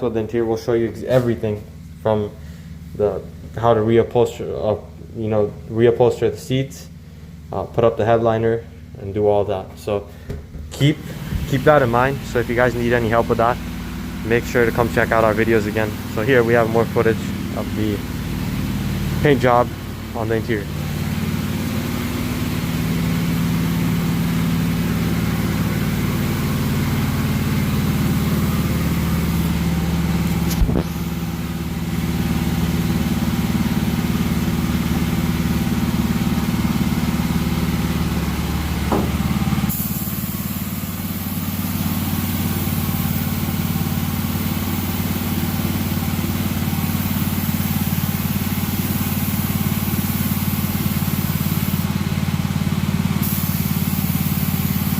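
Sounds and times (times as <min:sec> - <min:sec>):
air compressor running: 0:00.0 - 0:07.8, 0:08.4 - 0:54.9
paint spray gun hissing: 0:10.9 - 0:54.9.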